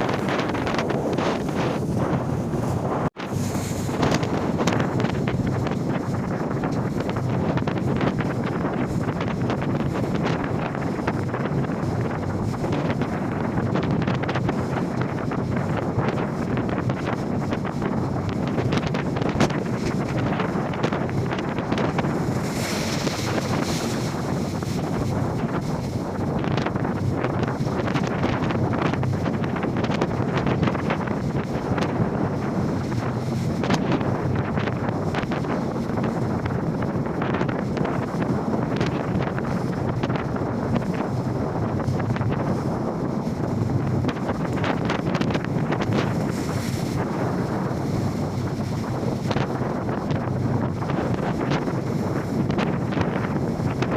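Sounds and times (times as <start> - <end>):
heavy waves: 0.0 - 53.9
rough sea rushing: 0.0 - 53.9
wind buffeting microphone: 0.0 - 53.9.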